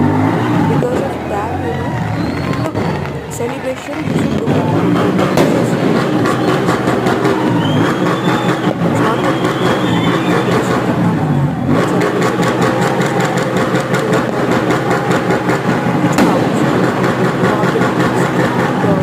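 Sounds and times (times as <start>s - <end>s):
crowd voices: 0.0s - 19.0s
sharp cracks: 0.0s - 19.0s
vehicle engines running: 0.0s - 19.0s.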